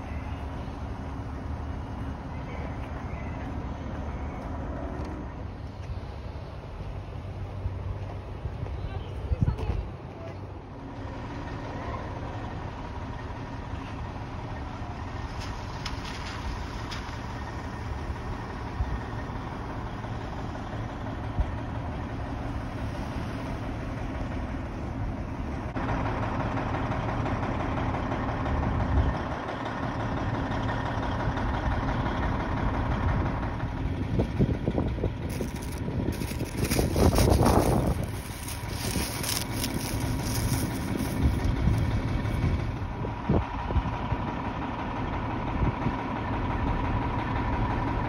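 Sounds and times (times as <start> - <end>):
fire engine engines rumbling: 0.0 - 48.0.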